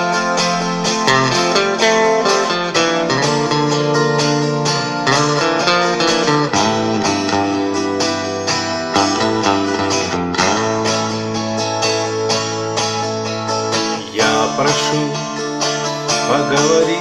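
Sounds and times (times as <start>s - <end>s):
guitar strumming chords: 0.0s - 17.0s.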